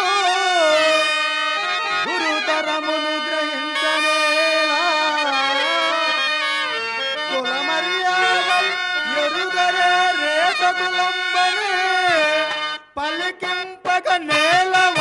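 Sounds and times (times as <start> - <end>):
harmonium slow melody: 0.0 - 15.0.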